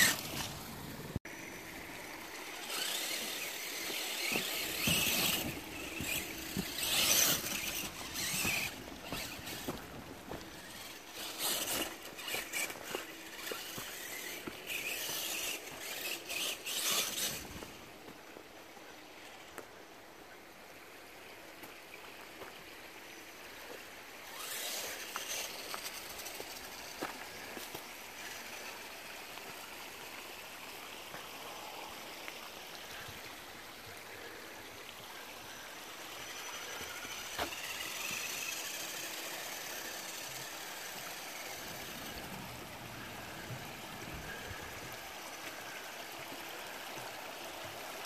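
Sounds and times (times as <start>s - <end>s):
rc car motor whining: 0.0s - 18.0s, 23.6s - 48.0s.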